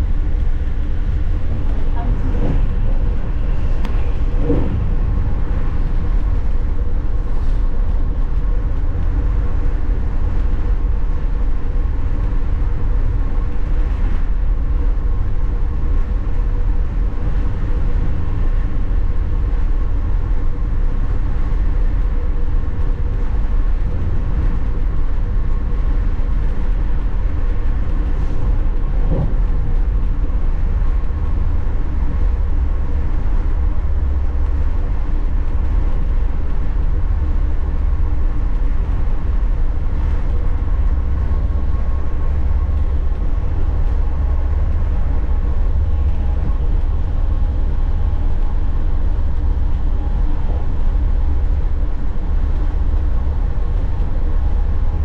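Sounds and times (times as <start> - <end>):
faint constant hum: 0.0 - 55.0
passenger train rumbling: 0.0 - 55.0.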